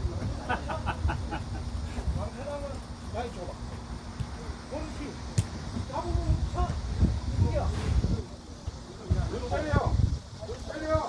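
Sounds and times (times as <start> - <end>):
steady low rumble: 0.0 - 10.5.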